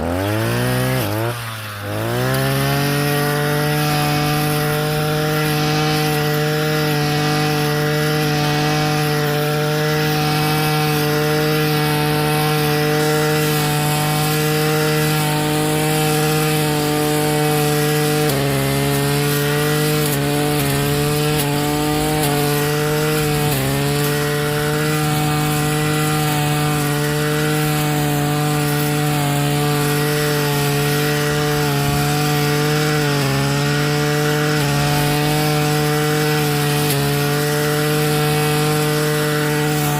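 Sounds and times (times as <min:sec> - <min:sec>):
weed cutter engine buzzing: 0:00.0 - 0:39.9.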